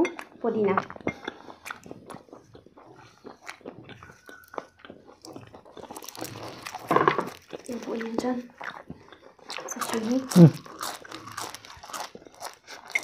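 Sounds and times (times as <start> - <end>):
chewing and crunching food: 0.0 - 13.0.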